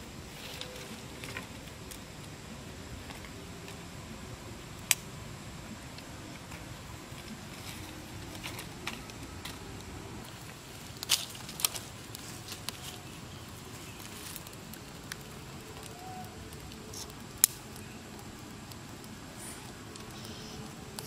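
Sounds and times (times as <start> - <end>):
low background hiss: 0.0 - 21.0
dry twigs crackling and snapping: 0.1 - 3.9, 4.6 - 21.0.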